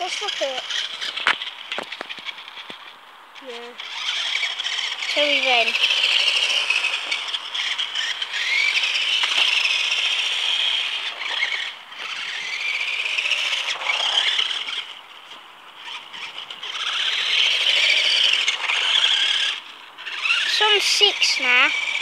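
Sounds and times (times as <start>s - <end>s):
rc car motor whining: 0.0s - 22.0s.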